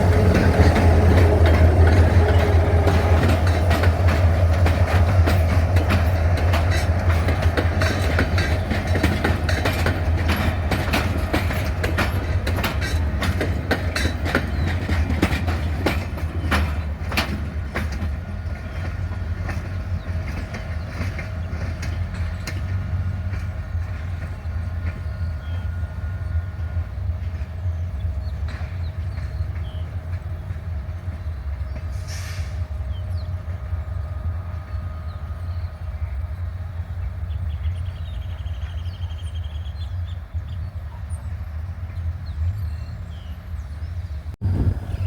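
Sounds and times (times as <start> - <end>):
locomotive engine droning: 0.0 - 45.0.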